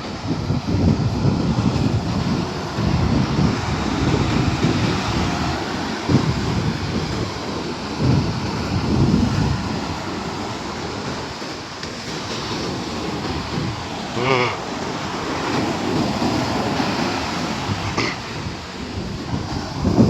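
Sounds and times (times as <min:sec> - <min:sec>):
sea surf: 0:00.0 - 0:20.0
wind buffeting microphone: 0:00.0 - 0:20.0.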